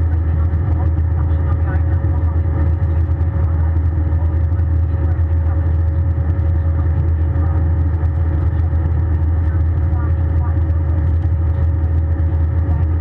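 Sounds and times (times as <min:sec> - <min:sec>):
constant whine: 0:00.0 - 0:13.0
jet engines and airflow rumbling: 0:00.0 - 0:13.0.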